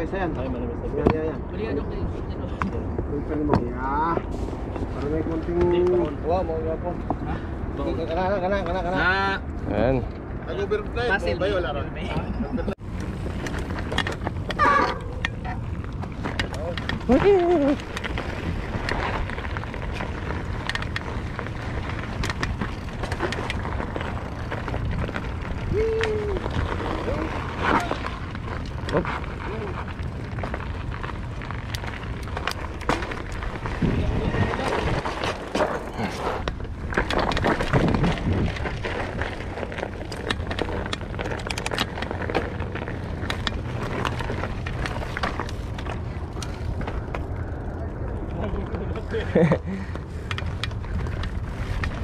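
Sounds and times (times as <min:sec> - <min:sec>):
wind rumble on microphone: 0:00.0 - 0:52.0
bike clicks and rattles: 0:02.4 - 0:52.0
bike jolts: 0:02.7 - 0:52.0.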